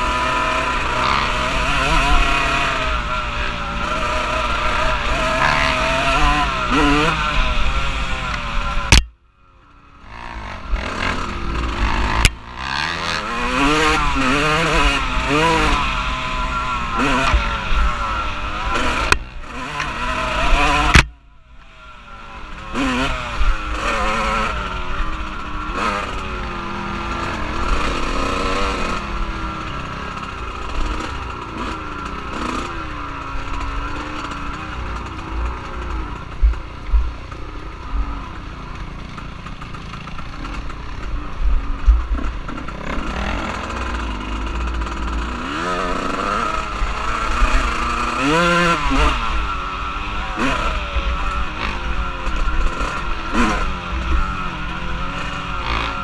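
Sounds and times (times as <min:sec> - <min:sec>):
off-road vehicle engine revving: 0:00.0 - 0:09.1, 0:09.9 - 0:56.0.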